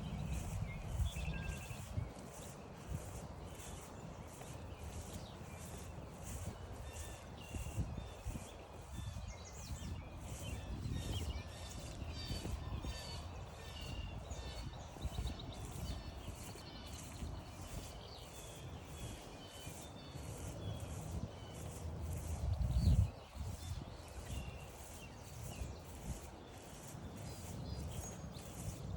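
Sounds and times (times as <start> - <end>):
footsteps crunching on trail: 0.0 - 28.9
songbirds chirping and trilling: 0.0 - 28.9.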